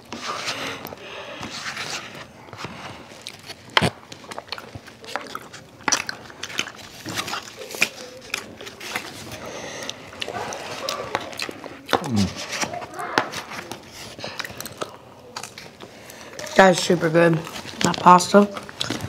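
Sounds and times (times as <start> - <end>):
chewing food: 0.1 - 19.0.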